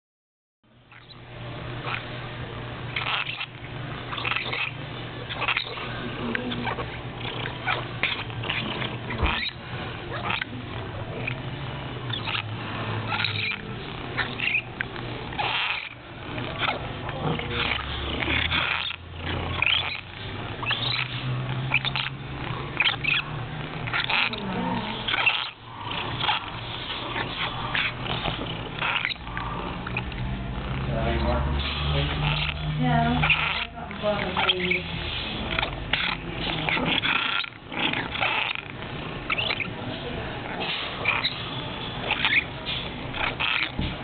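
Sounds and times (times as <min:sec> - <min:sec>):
low steady hum: 0:00.6 - 0:44.0.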